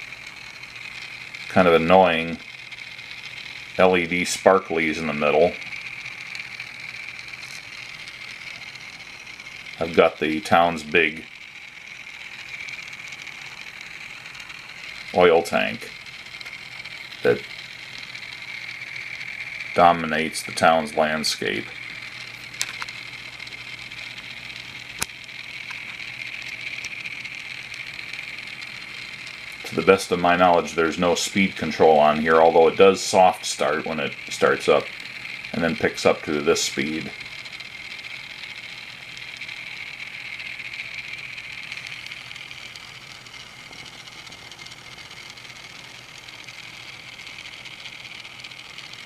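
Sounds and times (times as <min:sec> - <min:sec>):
toy train motor whirring: 0:00.0 - 0:49.0.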